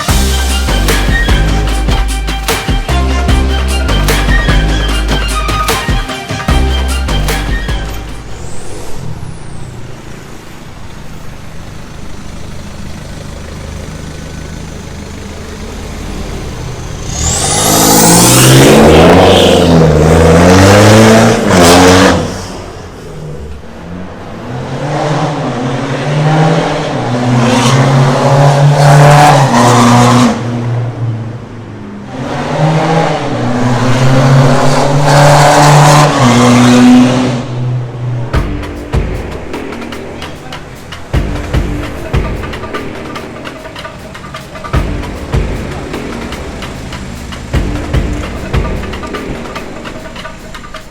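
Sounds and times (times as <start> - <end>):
diesel car engine accelerating: 0.0 - 5.7, 6.4 - 50.9.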